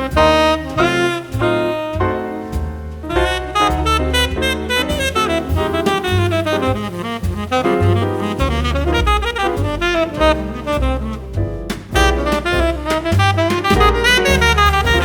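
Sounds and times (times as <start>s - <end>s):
saxophone-like lead: 0.0s - 2.5s, 3.1s - 15.0s
walking bass line: 0.0s - 15.0s.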